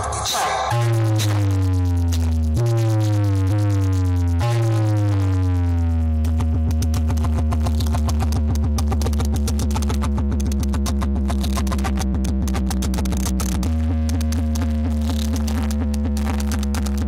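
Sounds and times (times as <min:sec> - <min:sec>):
loud electronic dance music: 0:00.0 - 0:17.0.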